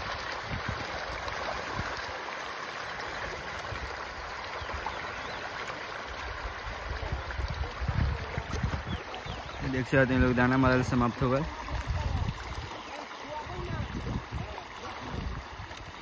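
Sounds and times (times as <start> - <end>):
fish splashing at water surface: 0.0 - 16.0.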